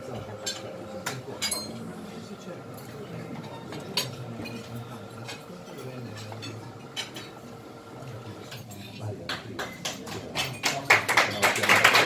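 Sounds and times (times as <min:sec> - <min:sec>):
glasses and cutlery clinking: 0:00.0 - 0:11.6.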